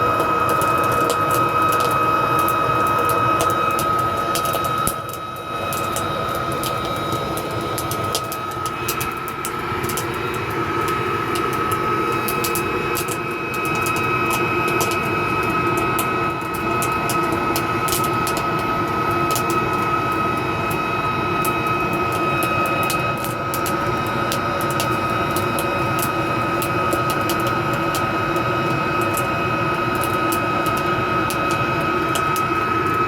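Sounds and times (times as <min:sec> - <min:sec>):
furnace roaring with whine: 0:00.0 - 0:33.0
sharp crackles and pops: 0:00.0 - 0:33.0.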